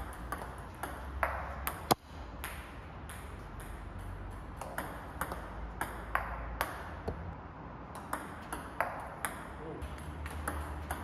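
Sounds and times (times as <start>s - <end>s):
table tennis ball clicking: 0.0s - 7.2s, 8.0s - 11.0s.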